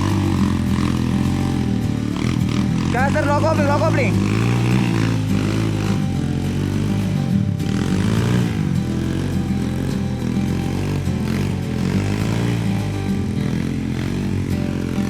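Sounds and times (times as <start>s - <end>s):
background music: 0.0s - 15.0s
motorcycle engine revving: 0.0s - 15.0s.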